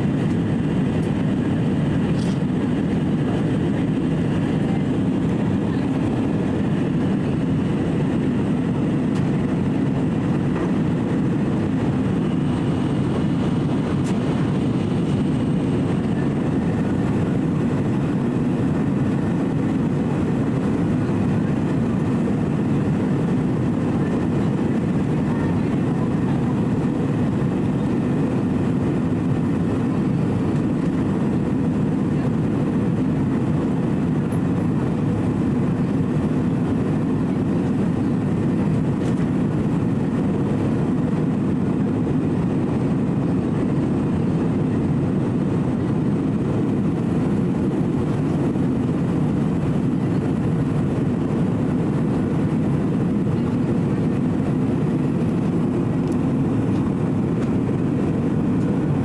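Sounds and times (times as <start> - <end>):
aircraft cabin engine drone: 0.0 - 59.0.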